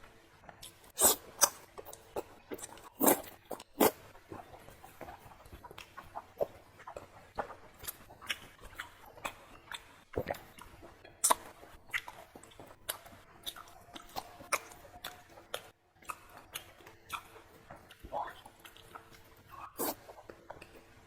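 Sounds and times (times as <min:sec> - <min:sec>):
chewing and biting food: 0:00.6 - 0:21.0.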